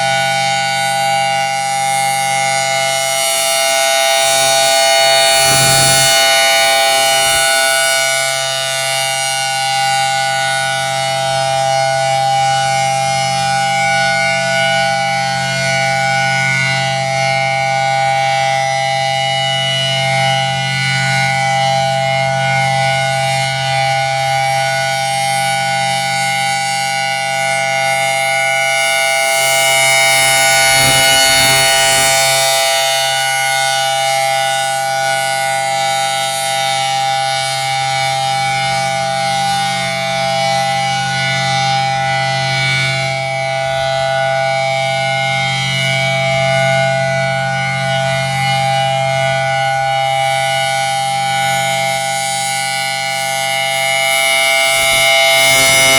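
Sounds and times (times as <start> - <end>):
warning siren steady chord: 0.0 - 55.9.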